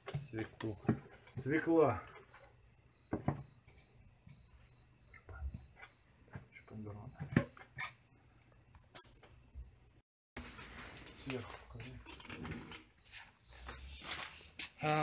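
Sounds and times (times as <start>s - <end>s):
cricket chirping: 0.1s - 15.0s.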